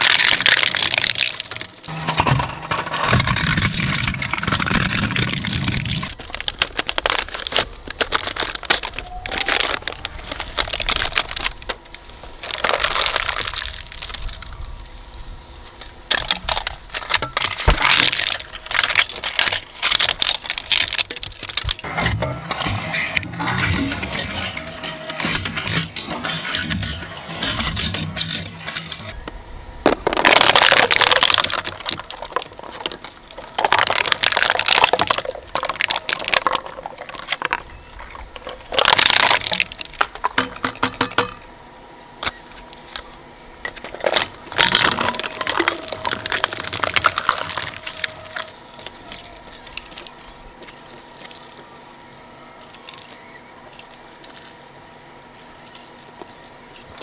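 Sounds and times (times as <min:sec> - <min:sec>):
shredder crunching plastic toys: 0:00.0 - 0:57.0
shredder machine whine: 0:00.0 - 0:57.0.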